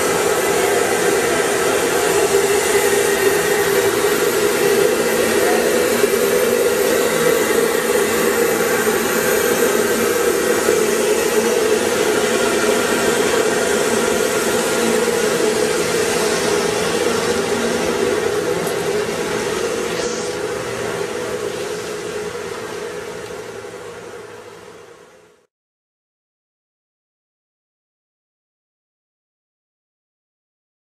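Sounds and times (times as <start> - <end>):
industrial vacuum running: 0.0 - 25.2.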